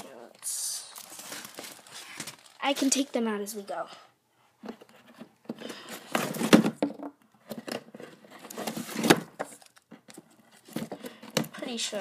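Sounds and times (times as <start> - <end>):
tape rolls rustling and scraping: 0.0 - 3.2, 4.6 - 12.0.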